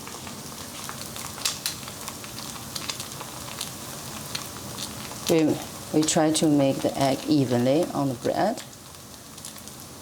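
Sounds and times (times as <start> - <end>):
crepe and egg sizzling in pan: 0.0 - 10.0.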